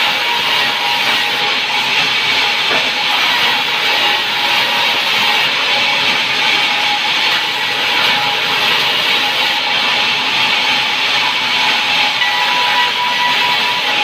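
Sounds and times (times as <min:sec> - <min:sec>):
power saw cutting wood: 0:00.0 - 0:14.0.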